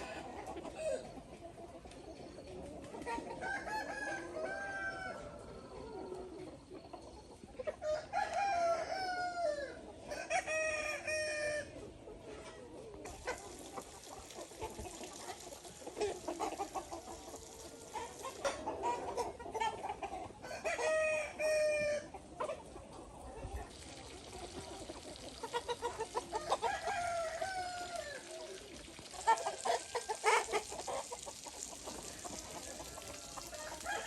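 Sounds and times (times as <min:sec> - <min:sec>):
chickens calling: 0:00.0 - 0:34.0
chickens clucking: 0:00.0 - 0:34.0.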